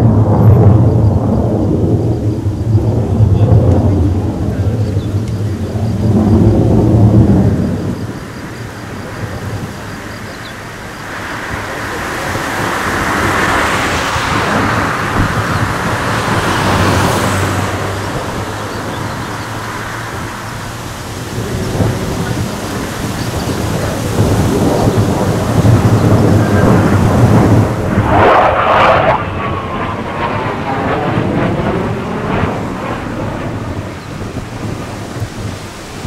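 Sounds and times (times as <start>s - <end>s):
jet engine roar overhead: 0.0s - 36.0s.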